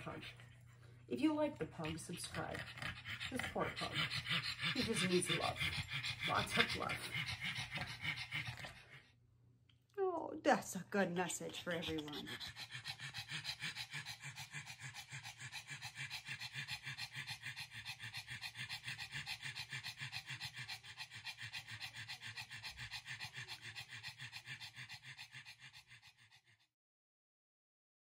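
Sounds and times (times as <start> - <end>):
dog panting rapidly: 0.0 - 9.1, 11.2 - 26.7.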